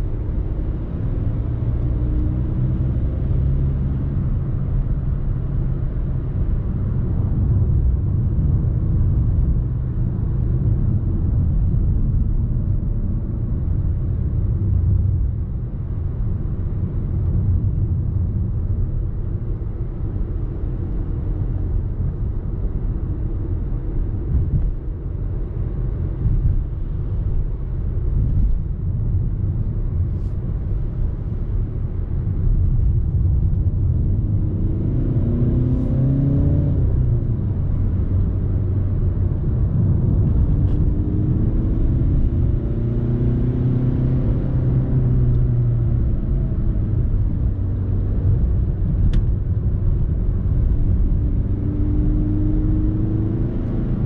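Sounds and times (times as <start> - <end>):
diesel car engine: 0.0 - 54.0.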